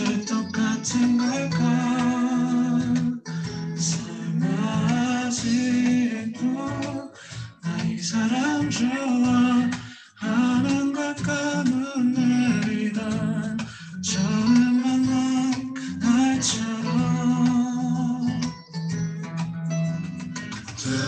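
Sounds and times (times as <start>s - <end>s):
person singing a melody: 0.0s - 18.6s, 20.7s - 21.0s
low musical accompaniment: 0.0s - 21.0s.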